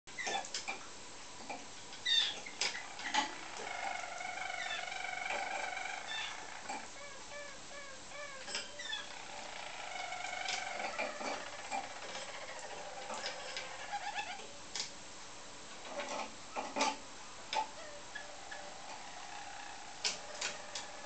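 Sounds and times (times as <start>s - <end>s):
canaries singing trills: 2.0s - 14.6s, 15.9s - 21.0s.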